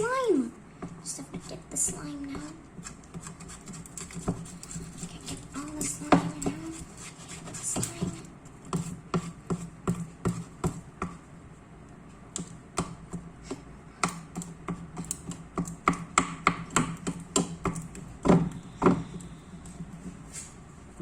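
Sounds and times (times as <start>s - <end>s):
slime being stirred: 0.0s - 21.0s.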